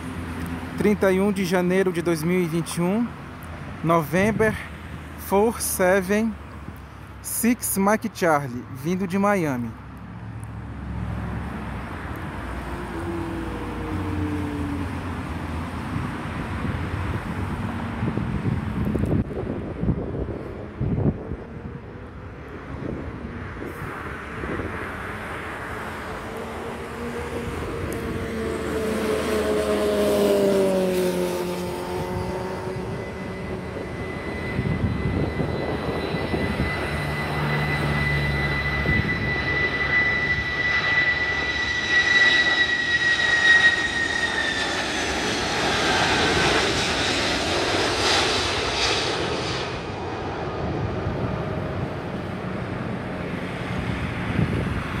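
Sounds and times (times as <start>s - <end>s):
jet aircraft passing overhead: 0.0s - 55.0s.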